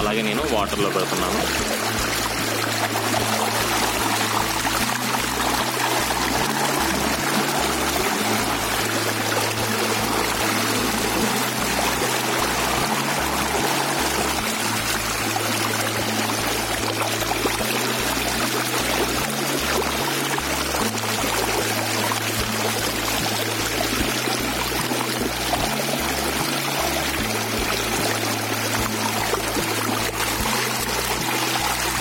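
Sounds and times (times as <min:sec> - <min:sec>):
background music with regular beat: 0:00.0 - 0:32.0
stream water rushing and splashing: 0:00.0 - 0:32.0.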